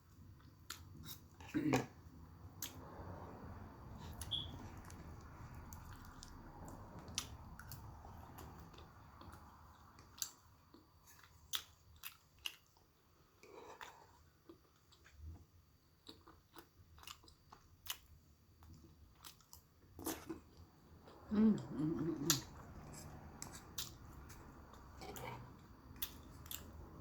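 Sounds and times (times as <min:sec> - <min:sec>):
chewing food: 0:04.0 - 0:27.0.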